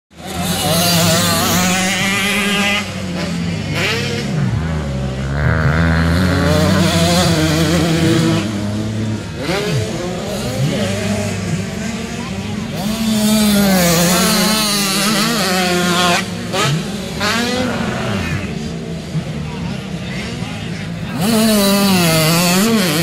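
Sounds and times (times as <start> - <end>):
motocross bikes revving: 0.1 - 23.0.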